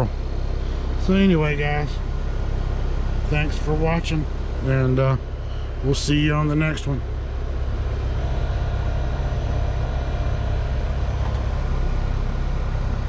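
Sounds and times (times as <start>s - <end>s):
heat pump humming: 0.0s - 13.0s.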